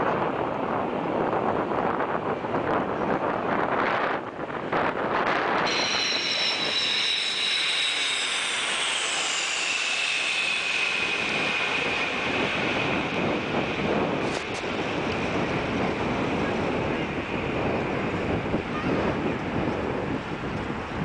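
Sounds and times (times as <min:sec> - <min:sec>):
jet engine high whine: 0:00.0 - 0:21.0
jet engines rushing overhead: 0:00.0 - 0:21.0
wind buffeting microphone: 0:00.0 - 0:21.0.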